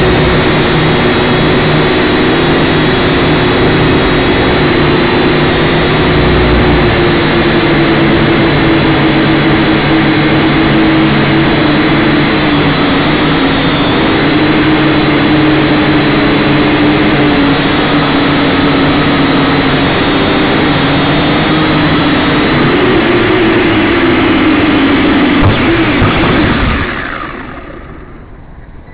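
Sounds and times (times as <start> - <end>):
drone propellers buzzing: 0.0 - 28.9.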